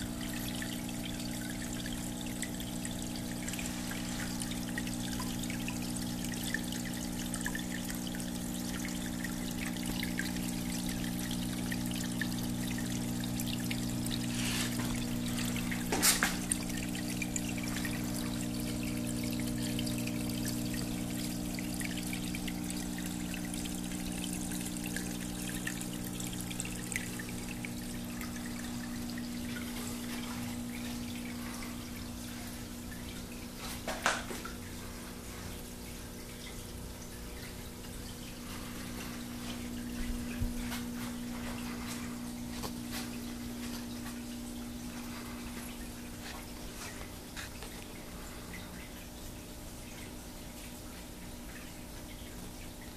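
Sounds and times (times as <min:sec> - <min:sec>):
water trickling into basin: 0:00.0 - 0:52.9.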